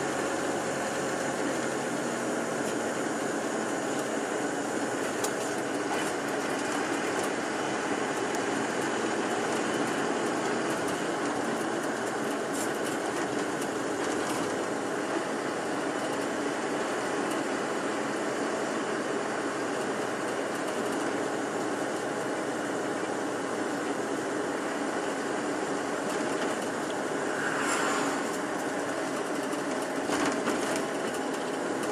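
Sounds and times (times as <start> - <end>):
bus engine and road noise: 0.0 - 31.9.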